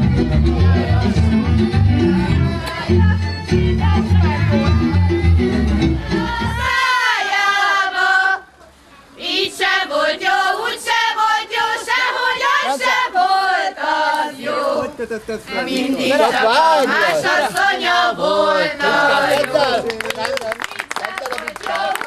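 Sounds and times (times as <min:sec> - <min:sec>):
group of people singing: 0:00.0 - 0:08.6, 0:09.2 - 0:19.6.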